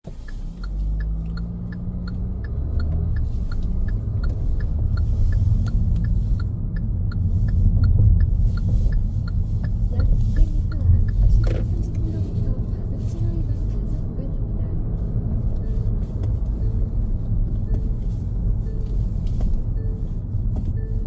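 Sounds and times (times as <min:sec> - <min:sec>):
car engine and tyres rumbling: 0:00.0 - 0:21.0
light even ticking: 0:00.0 - 0:21.0.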